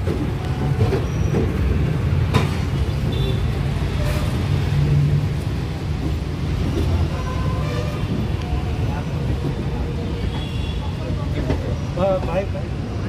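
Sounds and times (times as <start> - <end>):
train rumbling over bridge: 0.0 - 13.0.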